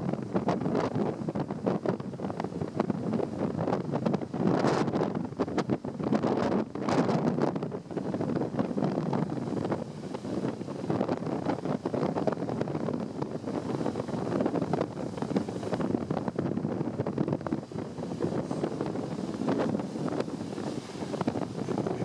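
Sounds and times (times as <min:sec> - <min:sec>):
heavy surf: 0:00.0 - 0:22.0
wind buffeting microphone: 0:00.0 - 0:22.0.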